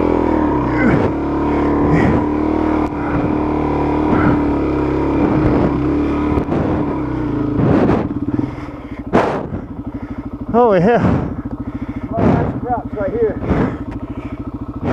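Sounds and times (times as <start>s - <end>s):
motorcycle engine at high revs: 0.0s - 14.9s.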